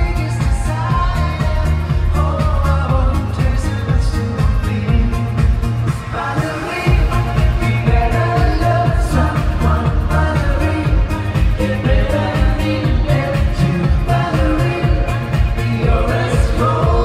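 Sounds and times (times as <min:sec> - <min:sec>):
pop song with lead vocal: 0:00.0 - 0:17.0
steady dance beat: 0:00.0 - 0:17.0.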